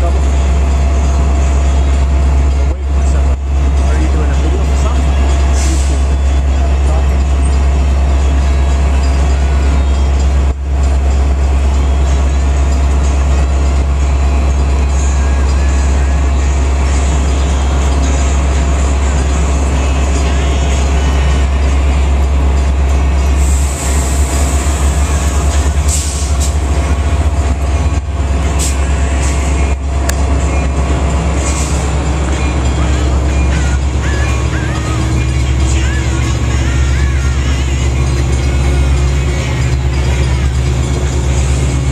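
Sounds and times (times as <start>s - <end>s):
diesel train low rumble: 0.0s - 41.9s.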